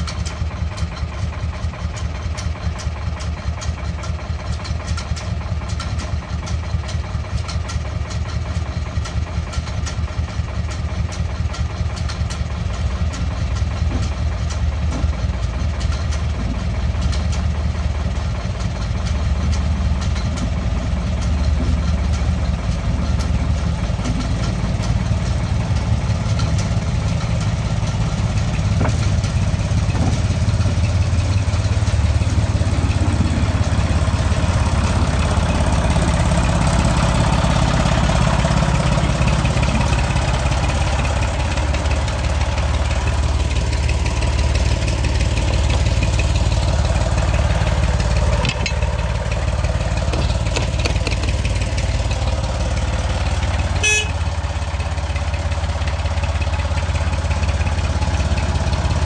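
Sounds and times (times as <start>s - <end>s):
diesel locomotive engine rumble: 0.0s - 59.0s.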